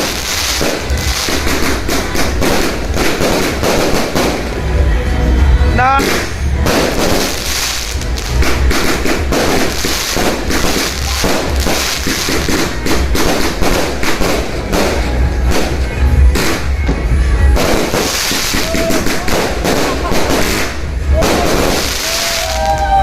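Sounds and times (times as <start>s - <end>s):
deep fireworks booms: 0.0s - 4.7s, 6.0s - 23.0s
fireworks bangs and crackling: 0.0s - 23.0s
music playing: 0.0s - 23.0s.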